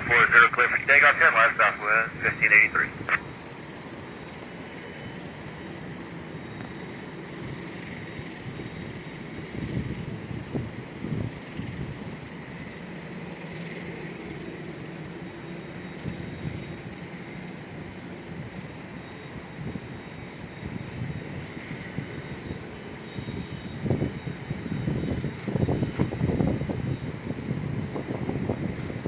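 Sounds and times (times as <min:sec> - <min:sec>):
distant jet engines whining: 0:00.0 - 0:29.0.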